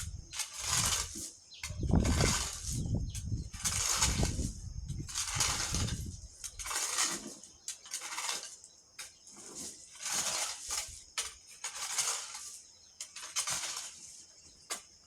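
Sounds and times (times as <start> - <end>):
crickets chirping: 0.0 - 15.0
scraping on gritty surface: 0.0 - 15.0.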